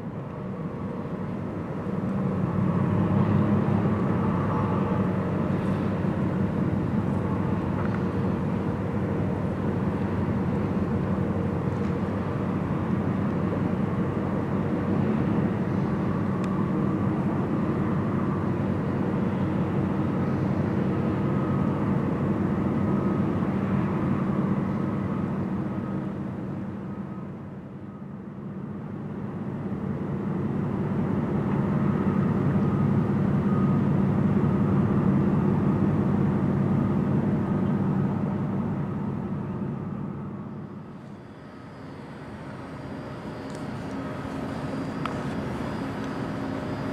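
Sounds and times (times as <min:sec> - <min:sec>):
boat diesel engine drone: 0:00.0 - 0:46.9.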